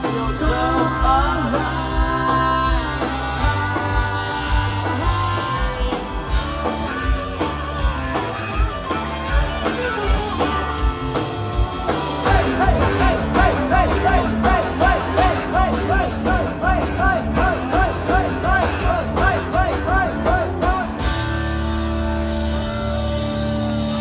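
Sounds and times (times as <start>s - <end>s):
drum beat: 0.0s - 21.3s
bass guitar: 0.0s - 24.0s
electric guitars: 0.0s - 24.0s.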